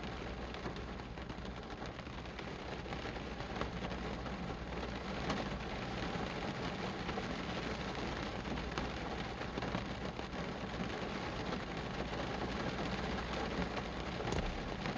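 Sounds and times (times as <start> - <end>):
raindrops striking close by: 0.0 - 14.9
steady rain falling: 0.0 - 14.9.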